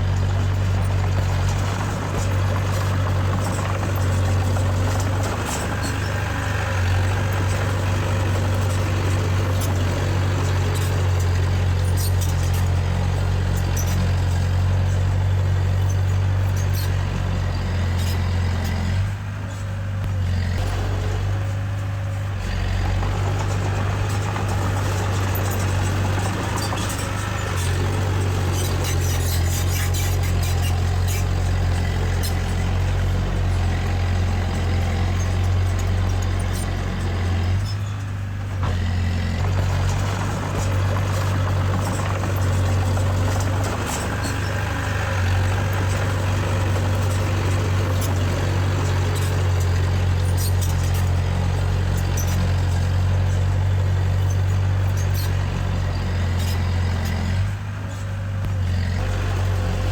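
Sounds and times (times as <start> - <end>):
diesel machinery drone: 0.0 - 59.9.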